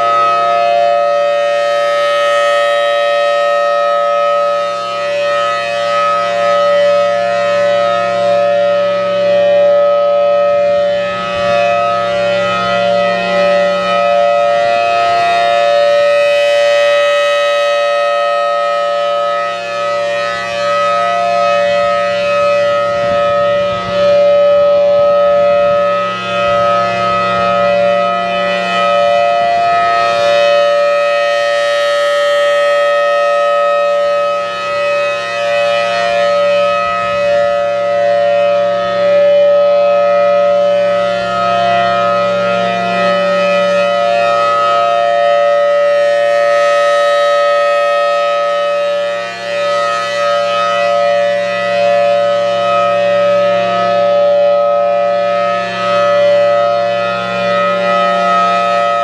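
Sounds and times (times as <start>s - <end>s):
rotating siren dual-tone: 0.0s - 59.0s.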